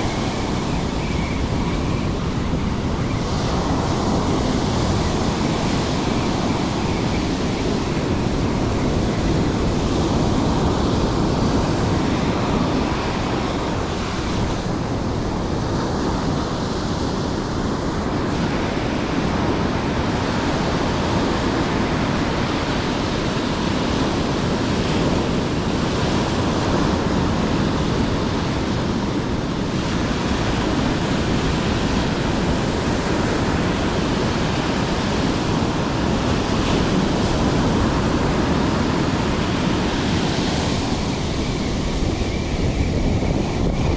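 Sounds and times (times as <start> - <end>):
surf breaking on shore: 0.0 - 43.9
wind buffeting microphone: 0.0 - 43.9.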